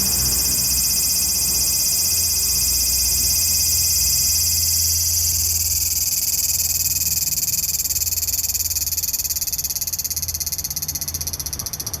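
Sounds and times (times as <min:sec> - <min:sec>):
cicada buzzing: 0:00.0 - 0:12.0.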